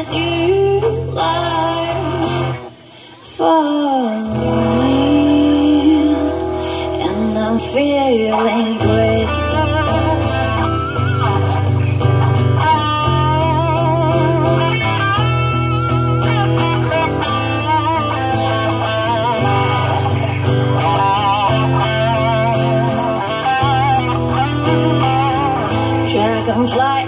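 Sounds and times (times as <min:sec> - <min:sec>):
guitar melody with vibrato: 0:00.0 - 0:02.8, 0:03.4 - 0:27.0
bass line: 0:04.3 - 0:27.0.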